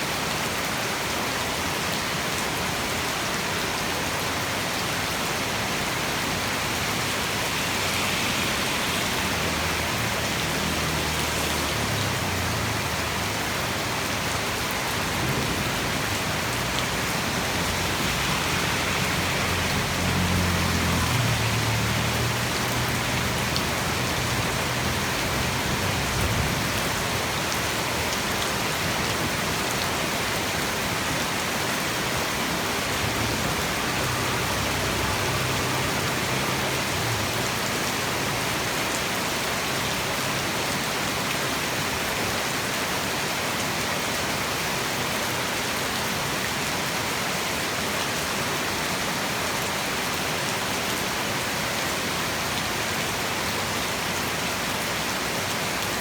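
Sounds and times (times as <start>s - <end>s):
heavy rain on surfaces: 0.0s - 56.0s.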